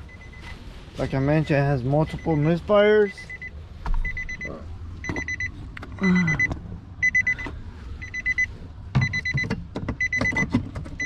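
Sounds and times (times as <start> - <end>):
car warning chime beeping: 0.0 - 11.0.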